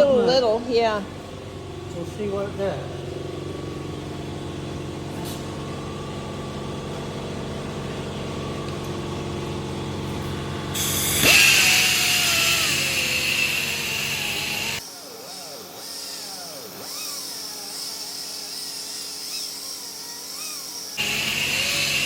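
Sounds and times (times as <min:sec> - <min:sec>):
electric rotary buffer running: 0:00.0 - 0:22.0.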